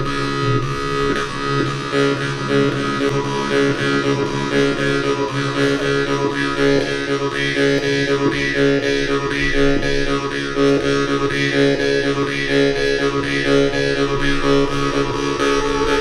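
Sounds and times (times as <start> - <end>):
bowed double bass: 0.0 - 16.0
low drone with sweeping overtones: 0.0 - 16.0.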